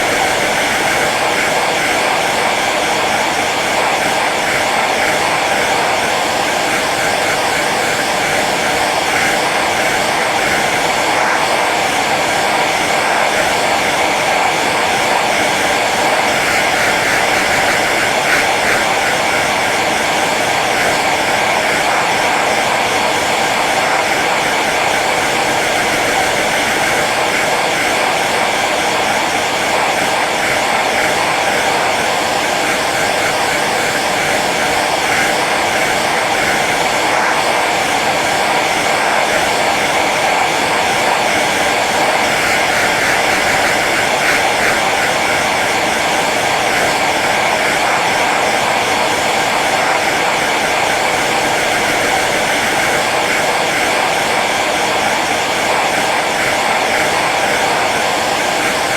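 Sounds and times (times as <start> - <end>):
hair dryer blowing: 0.0 - 58.9.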